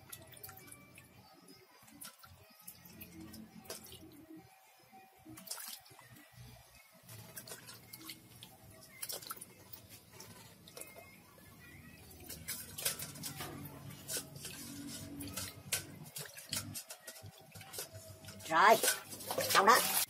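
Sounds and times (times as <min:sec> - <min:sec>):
water splashing in metal basin: 0:00.0 - 0:01.2, 0:01.8 - 0:04.4, 0:05.2 - 0:20.0.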